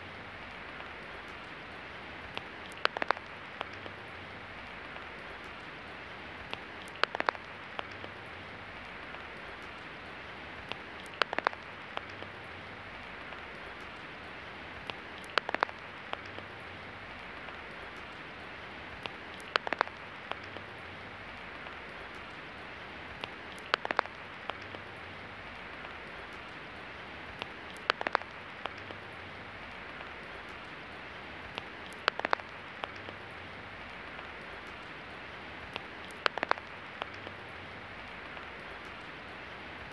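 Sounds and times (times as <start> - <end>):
steady rain hiss: 0.0 - 39.9
sharp drip clicks: 0.4 - 39.9.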